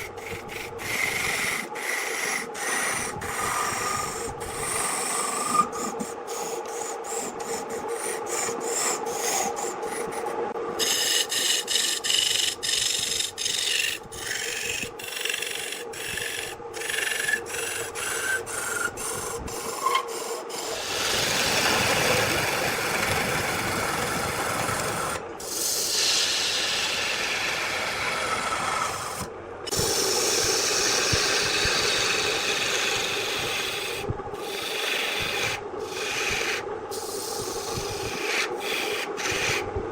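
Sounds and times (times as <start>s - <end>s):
tool scraping spinning wood: 0.0s - 39.7s
wood lathe humming: 0.0s - 39.7s.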